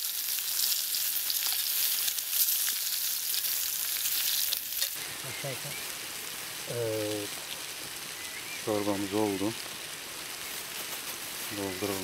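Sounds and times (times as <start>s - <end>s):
peppers and onions sizzling: 0.0s - 12.0s.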